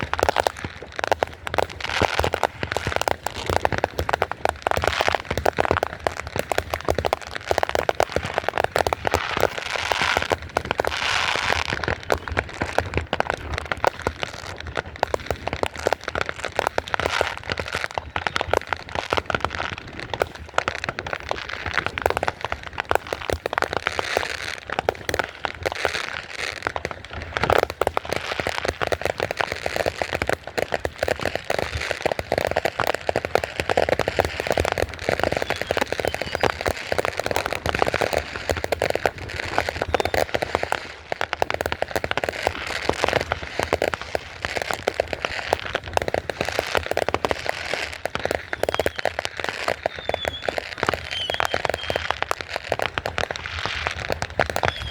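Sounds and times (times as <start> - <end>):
fireworks crackling and popping: 0.0 - 54.9.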